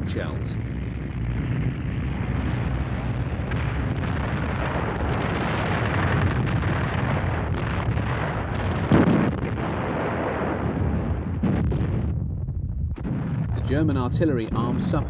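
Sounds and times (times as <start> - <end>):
rumble of artillery gunfire: 0.0 - 15.0.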